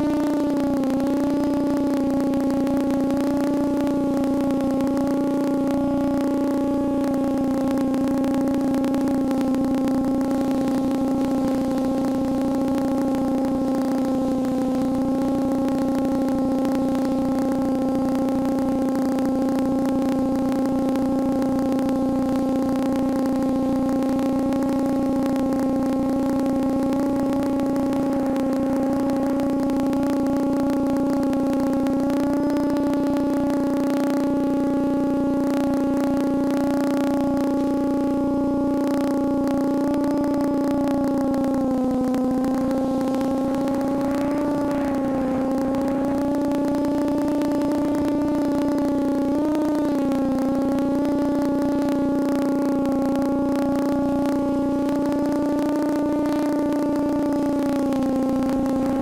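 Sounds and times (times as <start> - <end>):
quadcopter motors droning: 0.0 - 59.0.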